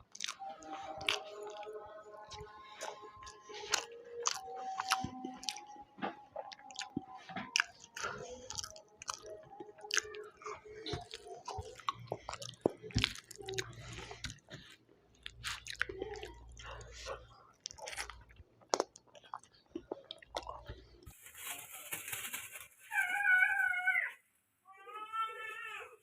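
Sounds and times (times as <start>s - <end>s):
person chewing crunchy food: 0.0s - 21.5s.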